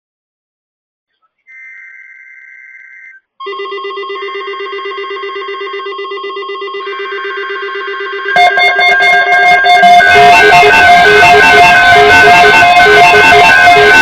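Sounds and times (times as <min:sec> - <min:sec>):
weather radio alarms pulsing: 0:01.5 - 0:14.0
buzzy data tones: 0:01.6 - 0:14.0.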